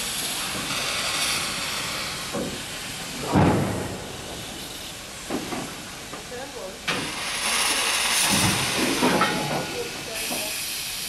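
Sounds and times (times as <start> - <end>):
steam hissing from locomotive: 0.0 - 11.0.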